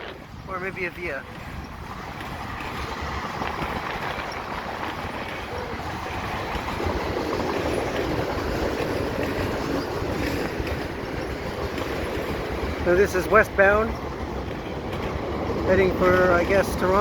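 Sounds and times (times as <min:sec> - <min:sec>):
freight train cars rolling past: 0:00.0 - 0:17.0
wind buffeting microphone: 0:00.0 - 0:17.0.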